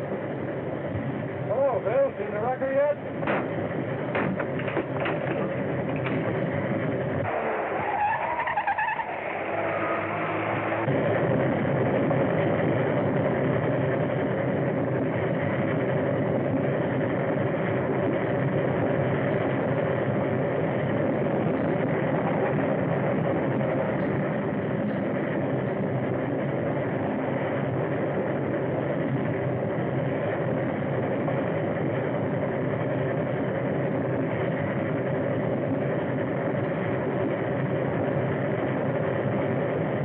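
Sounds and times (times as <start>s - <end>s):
train running: 0.0s - 40.0s.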